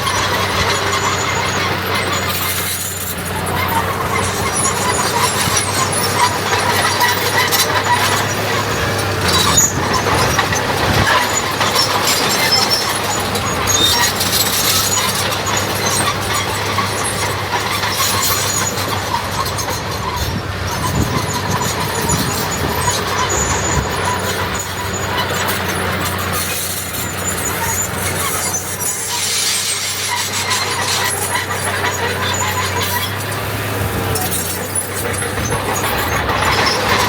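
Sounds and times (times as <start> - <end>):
diesel machinery running: 0.0 - 37.0.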